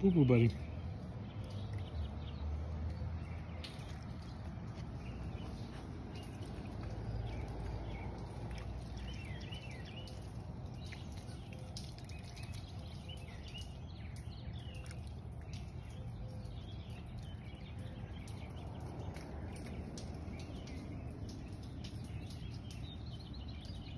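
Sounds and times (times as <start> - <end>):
birds chirping: 0.0 - 23.9
wet clicks and drips: 0.0 - 23.9
dog lapping water: 0.6 - 23.9.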